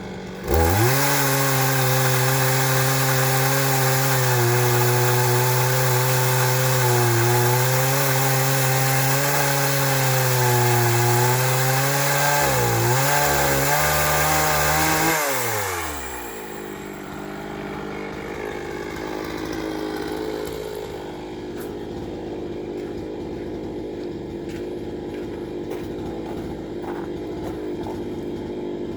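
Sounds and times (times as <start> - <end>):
chainsaw cutting firewood: 0.0 - 28.9.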